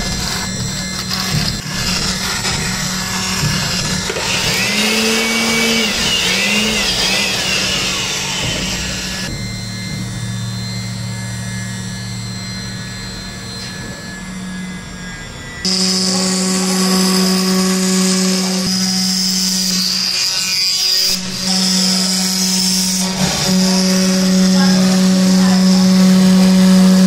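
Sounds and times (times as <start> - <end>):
router spindle running: 0.0 - 27.0.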